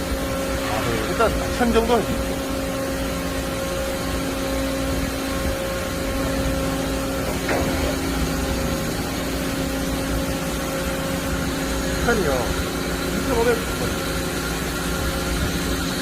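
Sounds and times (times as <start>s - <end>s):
machine spindle humming: 0.0s - 16.0s.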